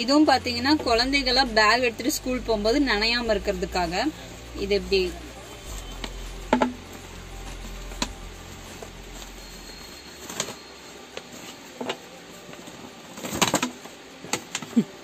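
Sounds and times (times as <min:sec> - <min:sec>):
plastic sheet crinkling: 0:00.8 - 0:15.0.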